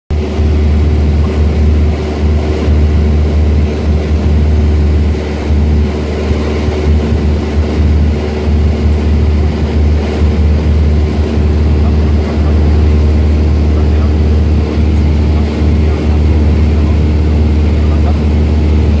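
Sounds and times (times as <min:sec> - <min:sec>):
airplane engine and propeller droning: 0:00.1 - 0:19.0.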